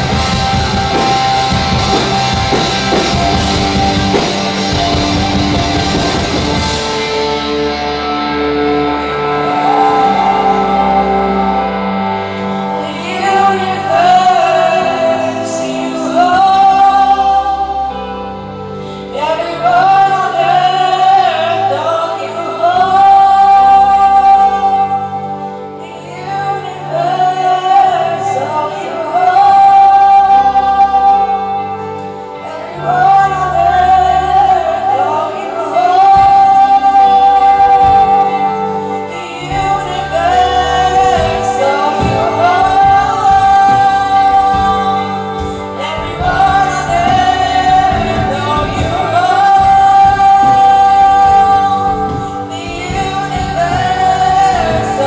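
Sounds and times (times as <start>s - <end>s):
backing singers: 0.0s - 55.0s
drums: 0.0s - 55.0s
electric guitars: 0.0s - 55.0s
woman singing lead: 0.0s - 55.0s.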